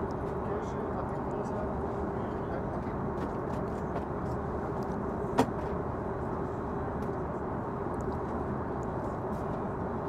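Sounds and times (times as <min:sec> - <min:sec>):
faint constant hum: 0:00.0 - 0:10.0
rush of cabin air: 0:00.2 - 0:10.0.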